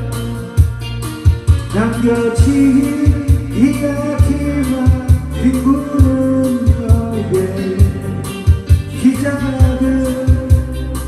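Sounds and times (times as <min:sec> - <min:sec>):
pop backing track with drums: 0:00.0 - 0:11.0
man singing into a microphone: 0:01.7 - 0:11.0.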